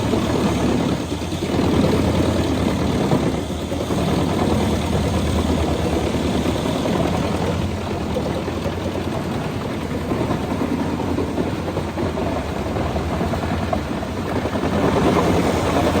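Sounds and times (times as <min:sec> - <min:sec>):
wood chipper drone: 0:00.0 - 0:16.0.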